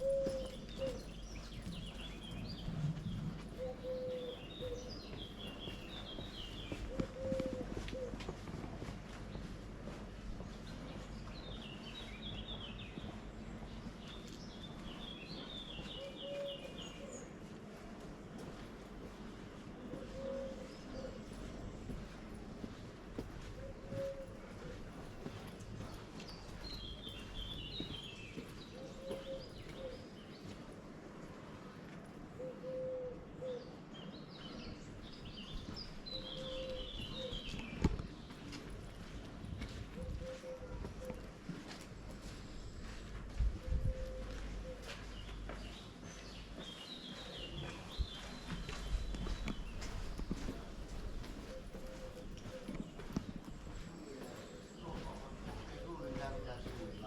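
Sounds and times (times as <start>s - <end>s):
songbird chirping: 0.0s - 8.3s, 9.1s - 57.0s
outdoor background noise: 0.0s - 57.0s.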